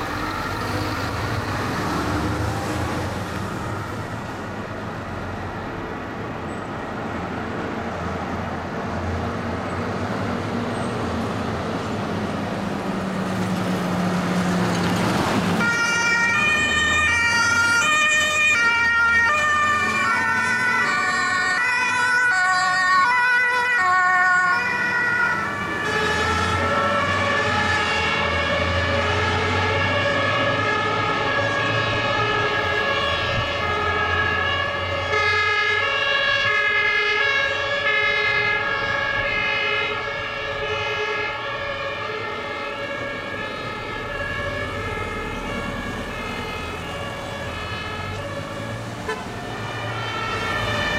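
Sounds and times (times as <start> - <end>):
heavy vehicle engines: 0.0 - 50.9
two-tone fire engine sirens: 0.0 - 50.9.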